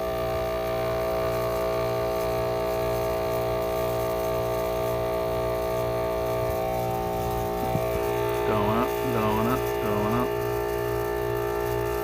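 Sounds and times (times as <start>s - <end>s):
compressor humming: 0.0s - 12.0s.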